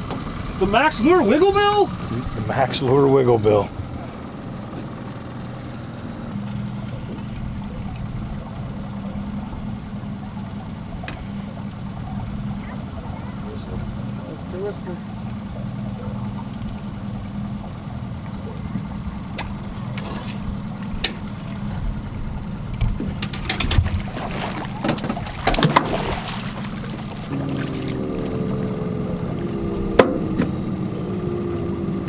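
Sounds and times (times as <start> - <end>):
higher steady engine note: 0.0 - 32.0
outboard boat motor running: 0.0 - 32.0.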